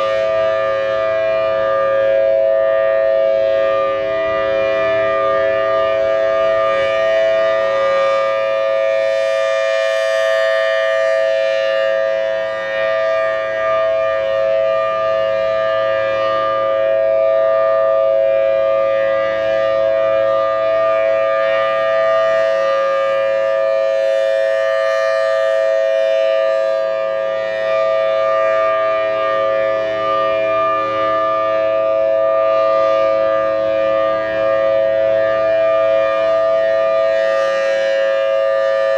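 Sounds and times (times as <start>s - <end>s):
outdoor warning siren: 0.0s - 38.9s.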